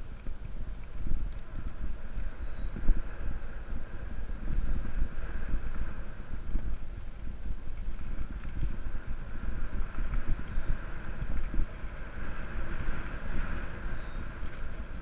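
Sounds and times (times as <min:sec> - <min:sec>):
mountain bike rumbling on dirt: 0:00.0 - 0:15.0
wind buffeting microphone: 0:00.0 - 0:15.0.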